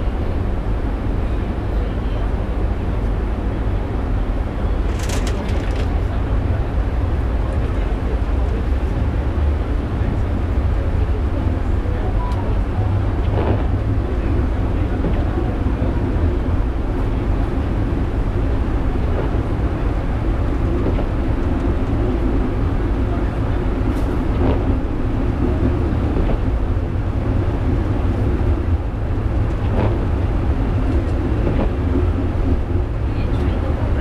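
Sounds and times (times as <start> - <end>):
funicular car rumble and hum: 0.0 - 34.0.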